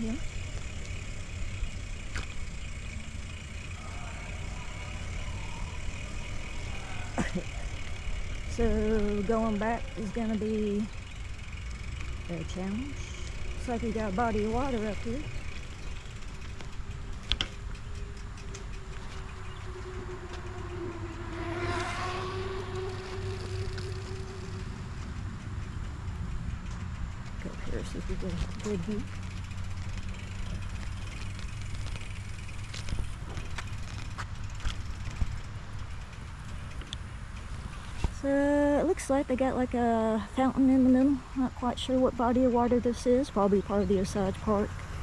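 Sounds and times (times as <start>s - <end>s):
bicycle rolling noise: 0.0s - 45.0s.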